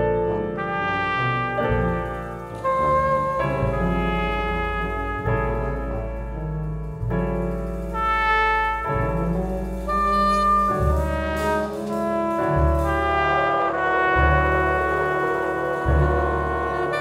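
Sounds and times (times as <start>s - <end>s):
horn section chords: 0.0s - 7.0s, 7.6s - 17.0s
tuba and upright bass notes: 0.0s - 17.0s
drum kit hits: 1.5s - 17.0s.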